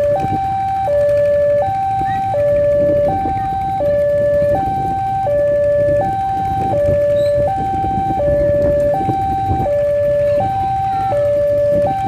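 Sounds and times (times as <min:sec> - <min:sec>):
two-tone warning alarm: 0:00.0 - 0:12.0.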